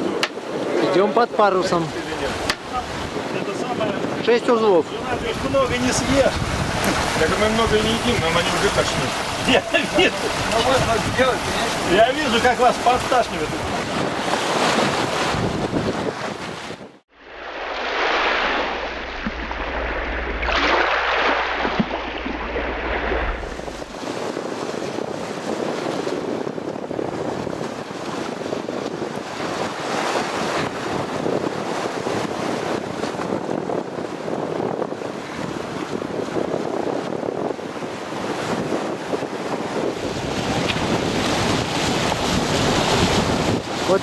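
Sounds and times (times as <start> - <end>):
sea wash: 0.0 - 44.0
wind buffeting microphone: 0.0 - 44.0.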